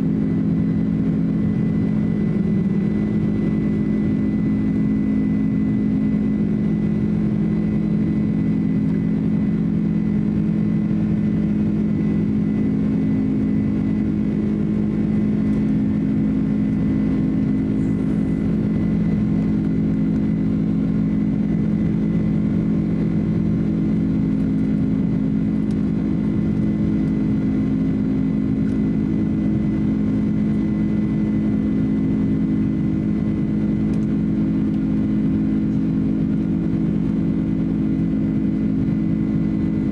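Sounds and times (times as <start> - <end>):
airliner cabin engine hum: 0.0 - 39.9
high engine whine: 0.0 - 39.9.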